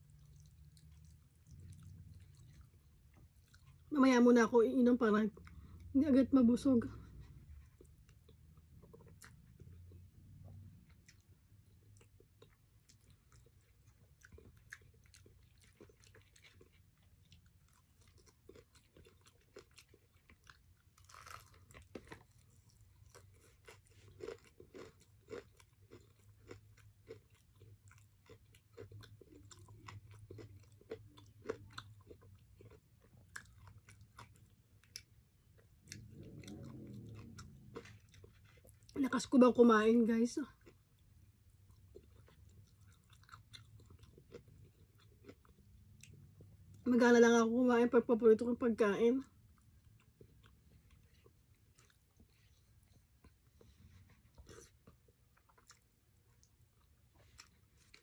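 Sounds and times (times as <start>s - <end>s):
person chewing: 0.0s - 3.9s, 7.0s - 39.0s, 40.5s - 46.8s, 49.5s - 58.0s.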